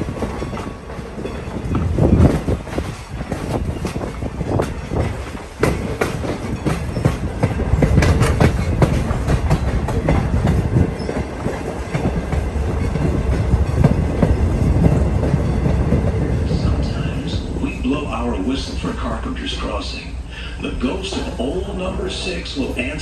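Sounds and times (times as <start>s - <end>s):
wheels clacking over rails: 0.0s - 19.2s
train coach rumbling: 0.0s - 23.0s.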